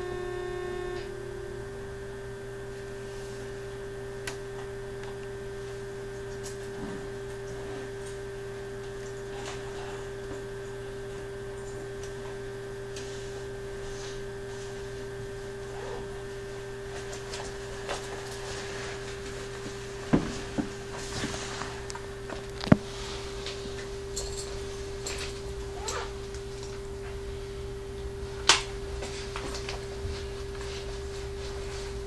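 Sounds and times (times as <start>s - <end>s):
electrical hum in train: 0.0s - 32.0s.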